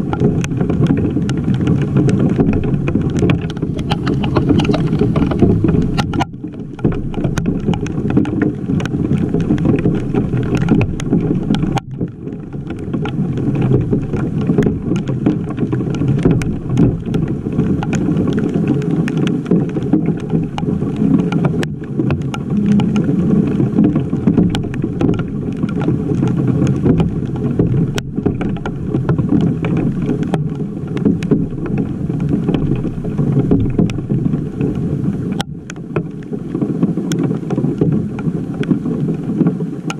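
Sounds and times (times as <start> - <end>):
hailstones ticking nearby: 0.0 - 39.9
rush of falling hail and rain: 0.0 - 39.9.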